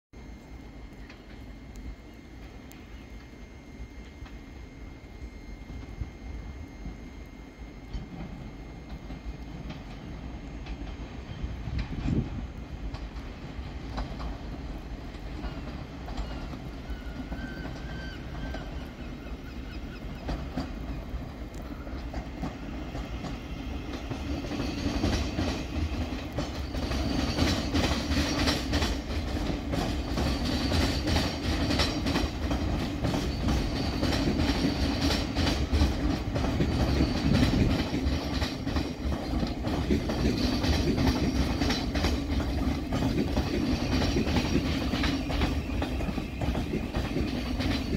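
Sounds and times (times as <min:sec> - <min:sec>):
train hum: 0:00.2 - 0:47.9
train wheels clattering over rail joints: 0:07.9 - 0:47.9.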